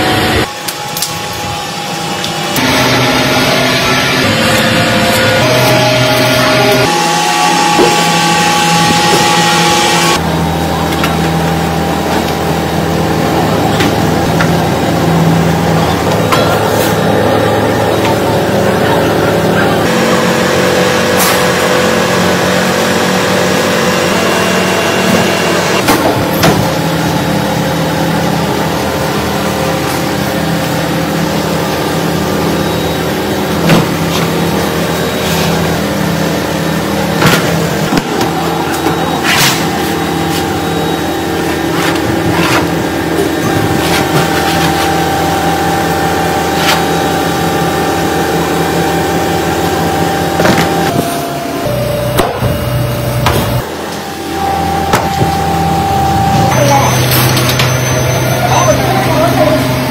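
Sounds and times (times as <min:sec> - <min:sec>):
factory machinery humming drone: 0:00.0 - 0:59.9.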